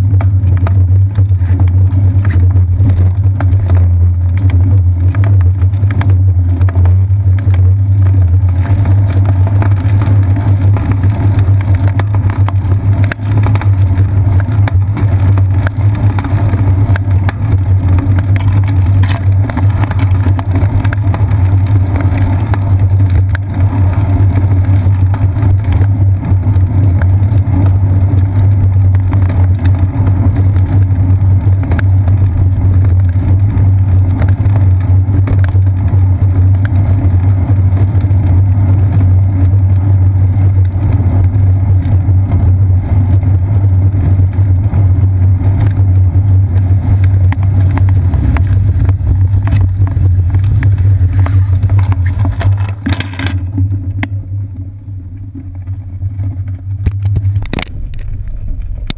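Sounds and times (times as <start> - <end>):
wind and road rumble: 0.0 - 58.9.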